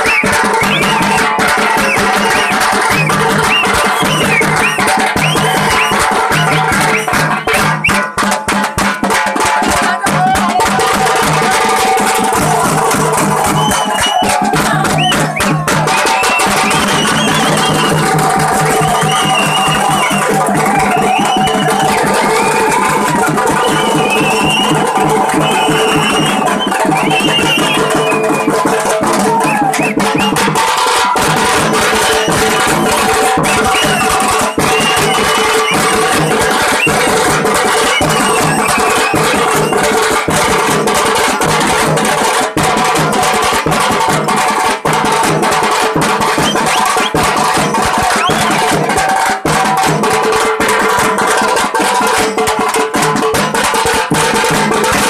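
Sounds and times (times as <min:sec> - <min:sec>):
hand drums playing fast beat: 0:00.0 - 0:55.0.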